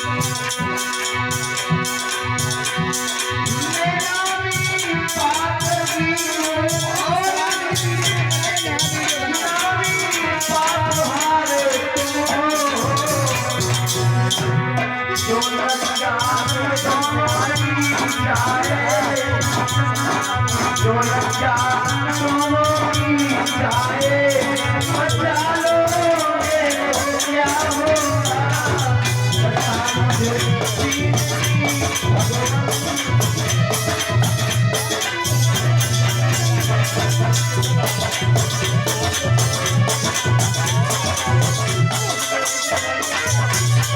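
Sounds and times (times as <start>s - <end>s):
shaker and drum rhythm: 0.0s - 43.9s.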